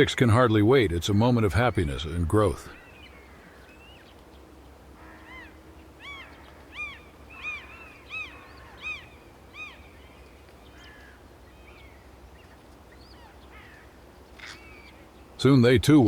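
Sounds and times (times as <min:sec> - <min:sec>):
bird chicks begging calls: 0:00.0 - 0:16.0.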